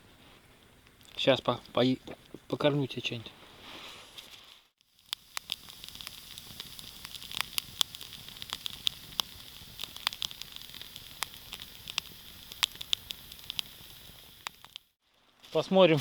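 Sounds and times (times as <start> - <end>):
campfire crackling and popping: 0.0 - 3.1, 4.8 - 16.0.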